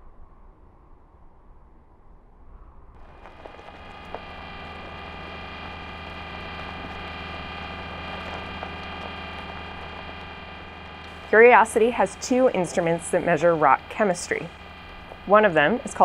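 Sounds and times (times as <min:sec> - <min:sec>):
mechanical humming drone: 0:03.0 - 0:16.0.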